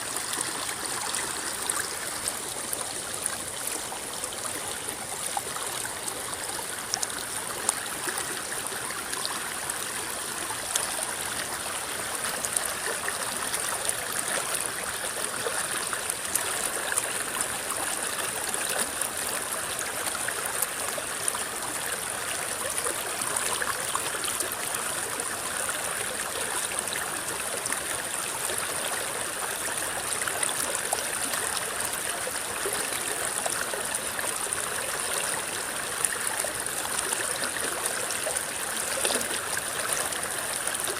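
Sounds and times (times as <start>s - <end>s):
river water gurgling: 0.0s - 40.9s.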